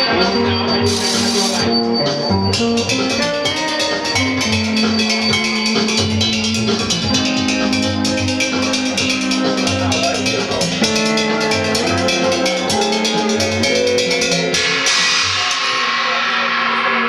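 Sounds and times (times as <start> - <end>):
sustained pitched percussion notes: 0.0 - 17.0.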